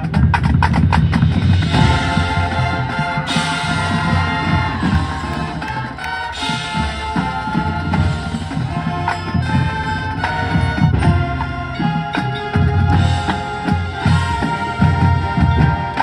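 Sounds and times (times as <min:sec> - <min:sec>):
drum hits: 0:00.0 - 0:16.0
mallet percussion: 0:00.0 - 0:16.0
brass chords: 0:01.5 - 0:16.0.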